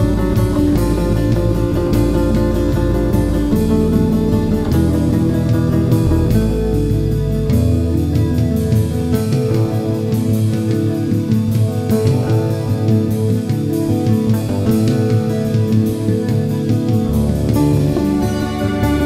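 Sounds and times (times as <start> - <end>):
instrumental background music: 0.0 - 19.0.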